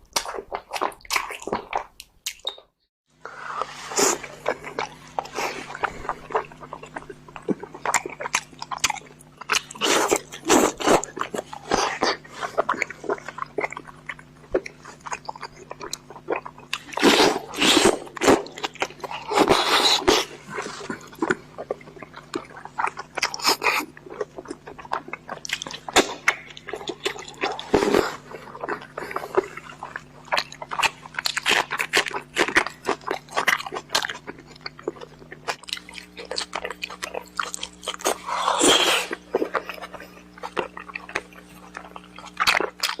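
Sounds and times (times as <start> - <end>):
person chewing crunchy fish: 0.0 - 2.7, 3.5 - 43.0.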